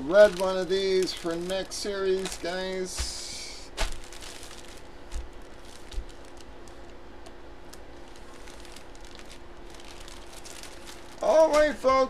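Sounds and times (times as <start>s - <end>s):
faint steady hum: 0.0s - 12.0s
plastic bag crinkling: 0.0s - 12.0s.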